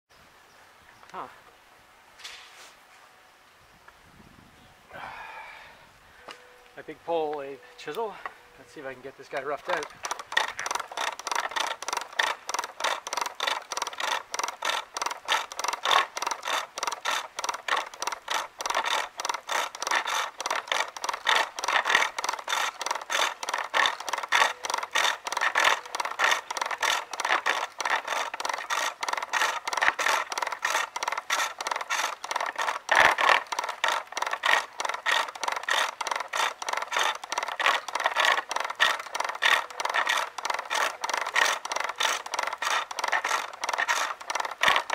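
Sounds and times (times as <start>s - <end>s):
gouge scraping wood on lathe: 8.7s - 44.9s.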